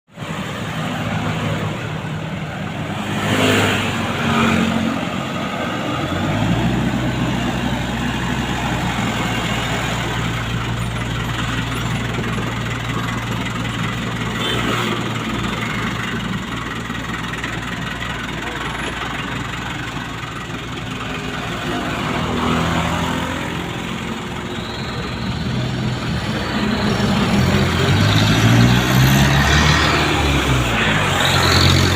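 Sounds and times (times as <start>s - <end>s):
diesel truck engine revving: 0.2s - 31.9s.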